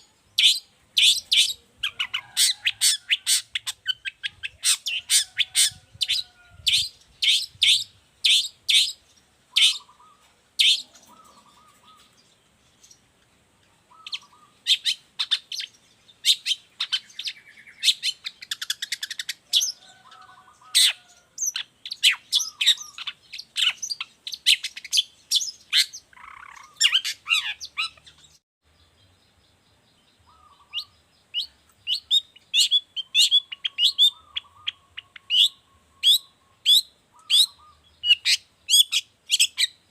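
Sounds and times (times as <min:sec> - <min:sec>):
bird singing high chirps: 0:00.0 - 0:13.0, 0:13.9 - 0:39.9.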